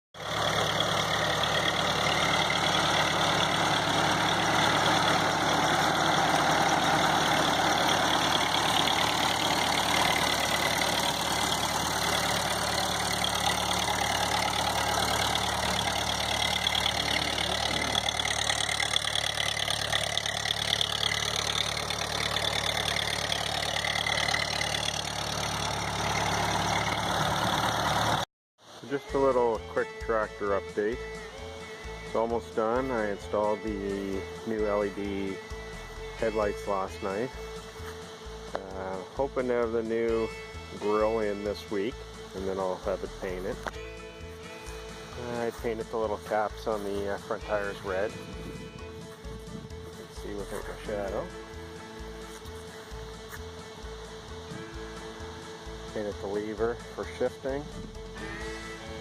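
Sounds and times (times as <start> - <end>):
tractor engine idling: 0.2 - 59.0.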